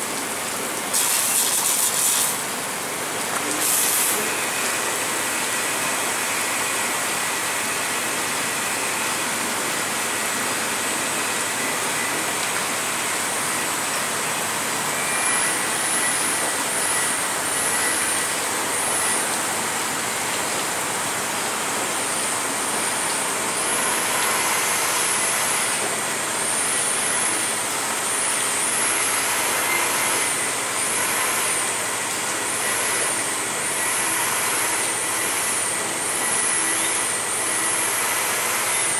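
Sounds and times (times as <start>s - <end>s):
car wash brushes and water spray: 0.0s - 38.7s
high wavering whine: 3.8s - 38.9s.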